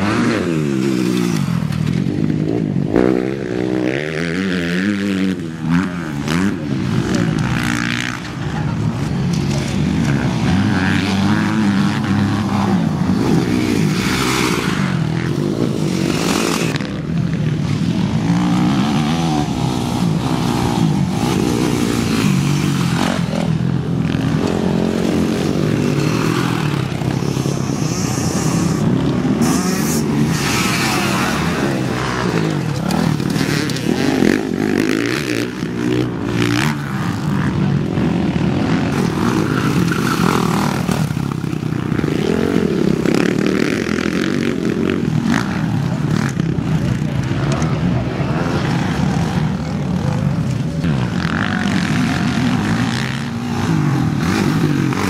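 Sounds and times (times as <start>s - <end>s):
motorcycles racing: 0.0s - 55.0s.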